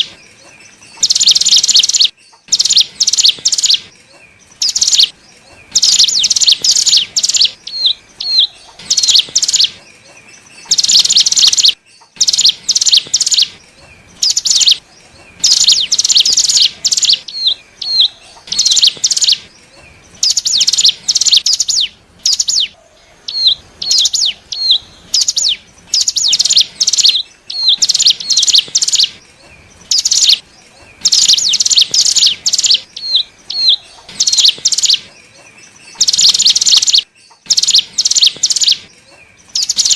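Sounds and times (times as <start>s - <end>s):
bird buzzy chattering song: 0.0s - 39.9s
bird upswept chips: 0.0s - 39.9s.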